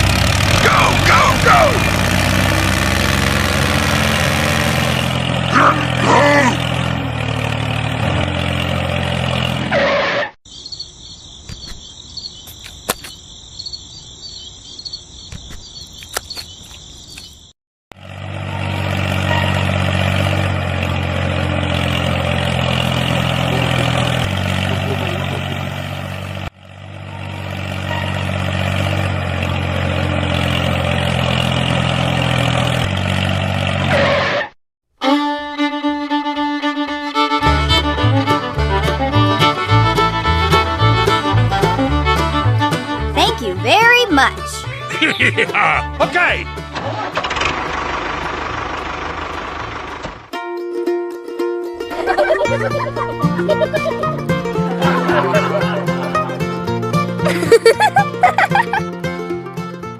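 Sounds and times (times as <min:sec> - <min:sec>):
steady engine-like hum: 0:00.0 - 0:09.8, 0:18.0 - 0:33.9, 0:35.6 - 0:50.3, 0:51.8 - 0:59.9.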